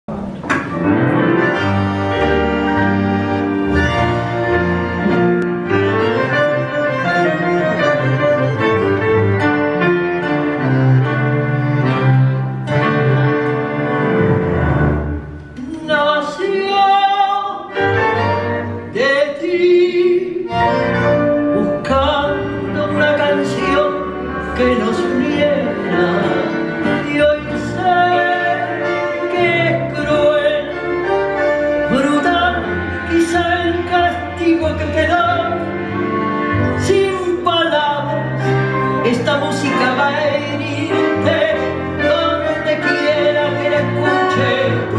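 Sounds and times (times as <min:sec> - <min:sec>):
piano: 0:00.0 - 0:44.9
tango orchestra playing: 0:00.1 - 0:44.9.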